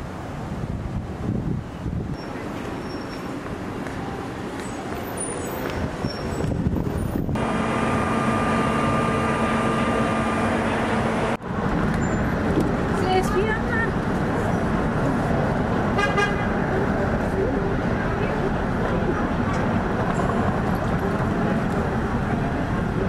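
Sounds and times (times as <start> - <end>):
street traffic noise: 0.0 - 23.0
streetcar hum with whining tone: 0.0 - 23.0.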